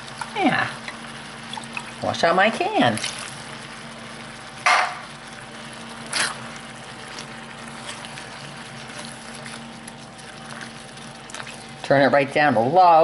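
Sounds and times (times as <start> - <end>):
soup simmering with low sizzle: 0.0 - 13.0.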